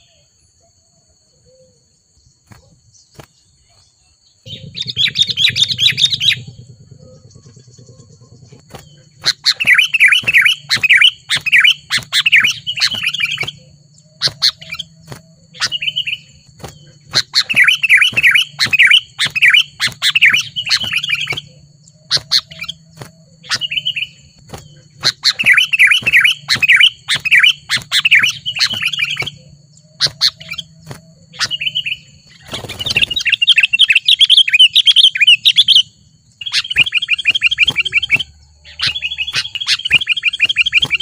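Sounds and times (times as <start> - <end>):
short bird calls: 2.4 - 41.0
bulbul chattering calls: 4.4 - 41.0.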